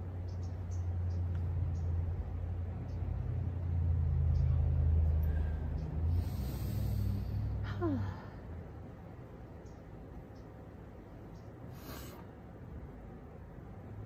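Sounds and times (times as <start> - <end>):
low engine-like rumble: 0.0 - 14.0.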